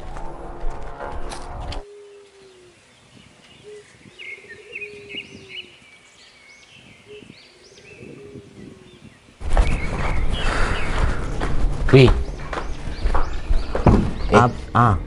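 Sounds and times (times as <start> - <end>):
low falling bird notes: 0.0 - 15.0
birds chirping: 0.9 - 15.0.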